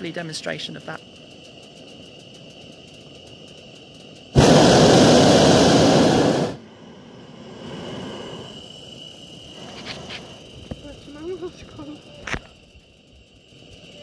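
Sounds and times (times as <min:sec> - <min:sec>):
propane burner rushing blast: 0:00.0 - 0:14.0.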